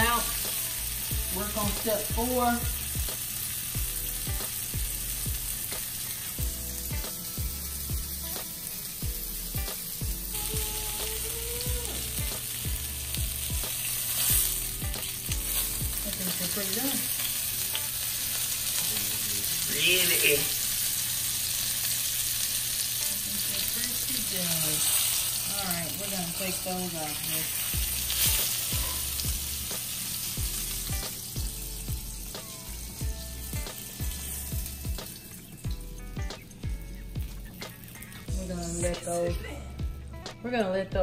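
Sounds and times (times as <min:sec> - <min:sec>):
meat sizzling in a frying pan: 0:00.0 - 0:39.4.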